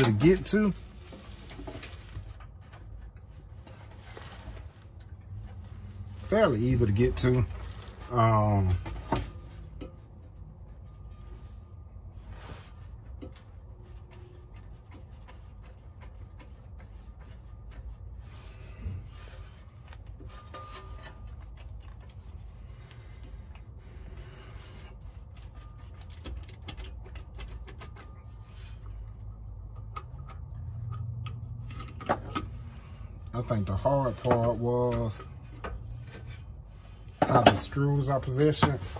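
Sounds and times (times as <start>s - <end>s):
low steady rumble: 0.0s - 38.9s.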